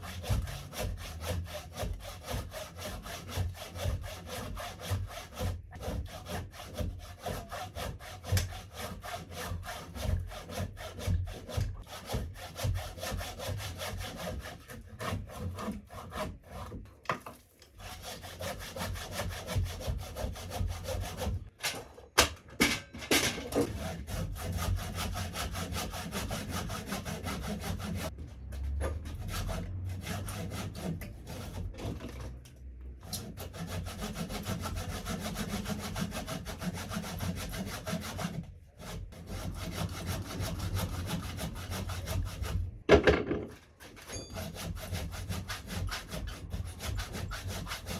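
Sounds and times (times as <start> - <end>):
handsaw cutting wood: 0.0 - 16.9, 17.7 - 21.5, 23.5 - 32.2, 33.0 - 42.7, 43.5 - 47.9.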